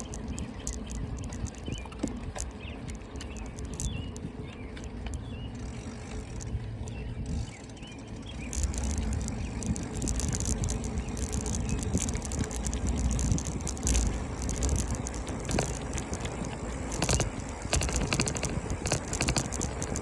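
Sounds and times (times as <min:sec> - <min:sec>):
bicycle tyre rumble: 0:00.0 - 0:20.0
bike clicks and rattles: 0:00.0 - 0:20.0
wind buffeting microphone: 0:00.0 - 0:20.0.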